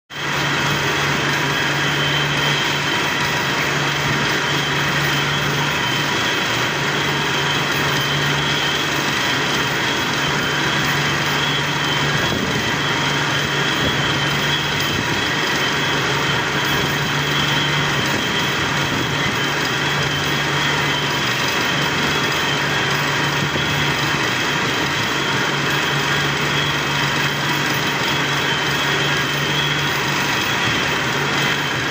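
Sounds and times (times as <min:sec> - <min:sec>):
industrial machinery drone: 0:00.1 - 0:31.9
thin high whine: 0:00.1 - 0:31.9.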